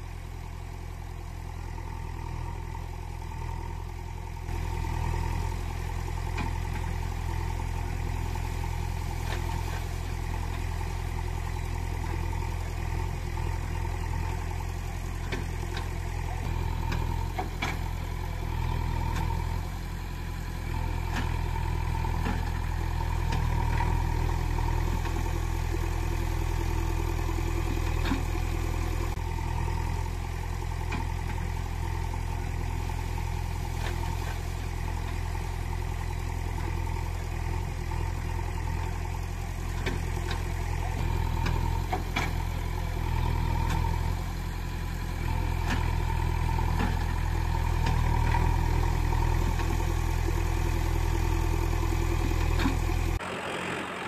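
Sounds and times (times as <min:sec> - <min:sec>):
heavy vehicle engine idling: 0:00.0 - 0:54.0.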